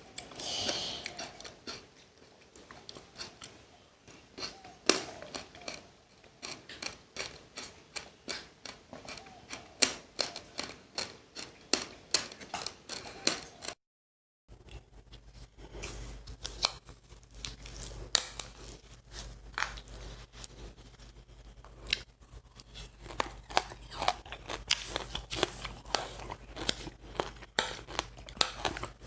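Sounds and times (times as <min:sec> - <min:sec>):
chewing and crunching seeds: 0:00.0 - 0:13.8, 0:14.7 - 0:29.0.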